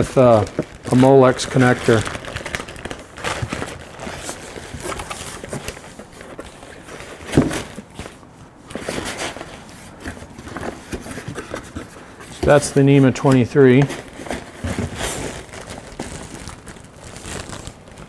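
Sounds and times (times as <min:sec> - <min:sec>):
plastic bag and cardboard rustling: 0:00.0 - 0:18.0.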